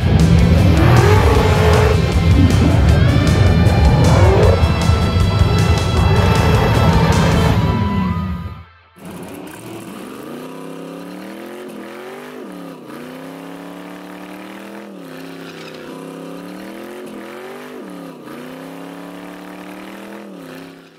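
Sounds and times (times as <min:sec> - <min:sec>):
car engine revving hard: 0:00.0 - 0:20.9.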